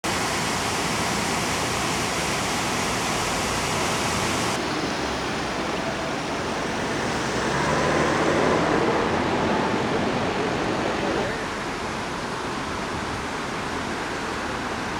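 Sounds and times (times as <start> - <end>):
fast-flowing river rushing: 0.1 - 14.9.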